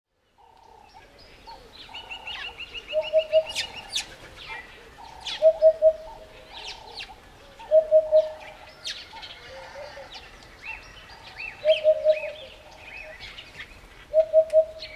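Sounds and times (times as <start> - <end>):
birds chirping: 0.2 - 14.9
bird trilling: 1.5 - 14.9.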